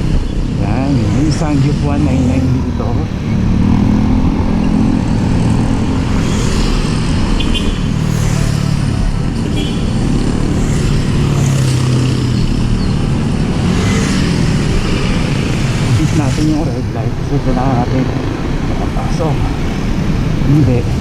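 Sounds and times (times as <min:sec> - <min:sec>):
motorcycles passing: 0:00.0 - 0:21.0
street traffic passing: 0:00.0 - 0:21.0.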